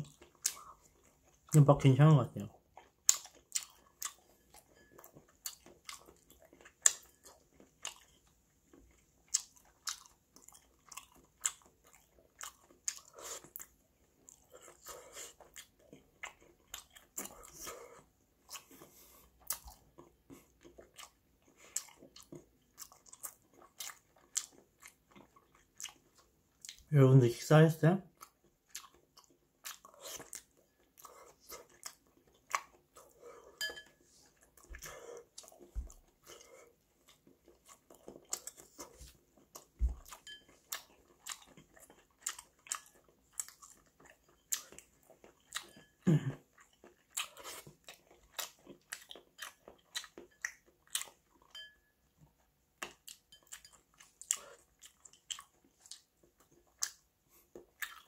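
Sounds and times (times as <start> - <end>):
wet chewing mouth sounds: 0.0 - 1.8, 2.4 - 26.9, 28.1 - 58.0.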